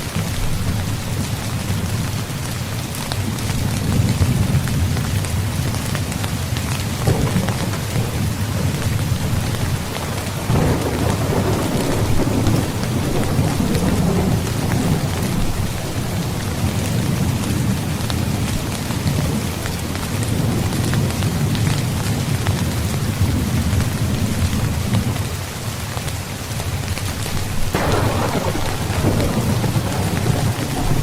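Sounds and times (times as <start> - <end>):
heavy rain falling: 0.0 - 31.0
rolling thunder: 3.6 - 25.2, 27.7 - 31.0.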